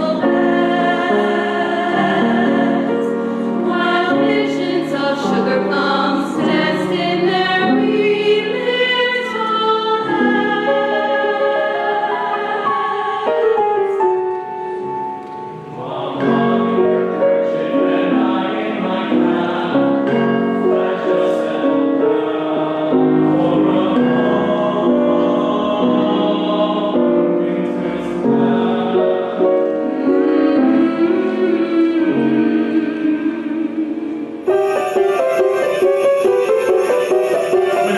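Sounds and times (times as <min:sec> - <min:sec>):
choir singing a carol: 0:00.0 - 0:37.9.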